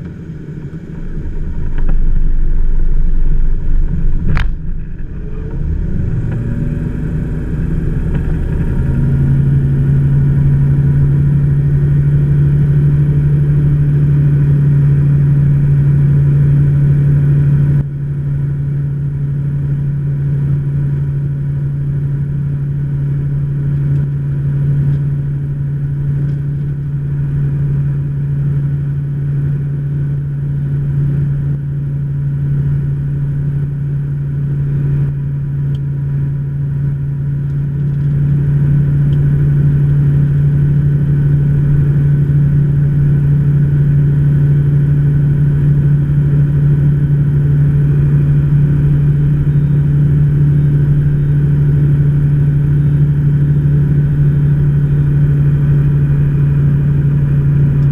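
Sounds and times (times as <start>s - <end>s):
propeller engine in flight: 0.0s - 57.9s.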